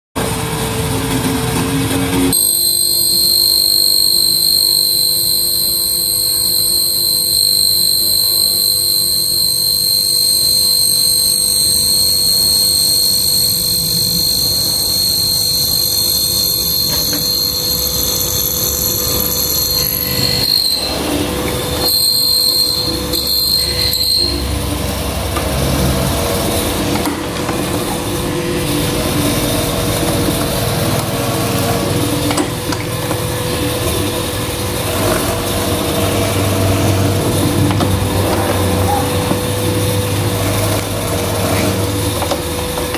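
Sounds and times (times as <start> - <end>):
electric motor whining: 2.3 - 42.9.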